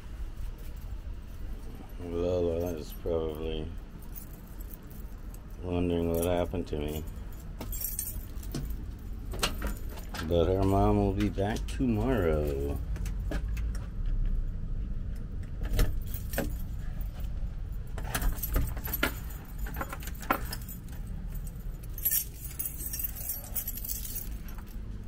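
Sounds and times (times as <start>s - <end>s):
steady low rumble: 0.0s - 25.0s
keys jangling: 0.5s - 13.7s, 15.6s - 25.0s.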